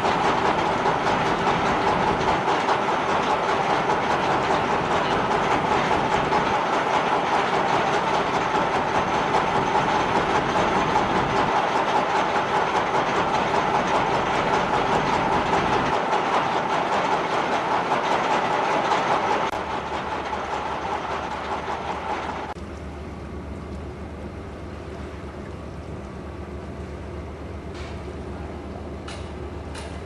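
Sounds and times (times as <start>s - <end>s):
machinery hum with rattling: 0.0s - 30.0s.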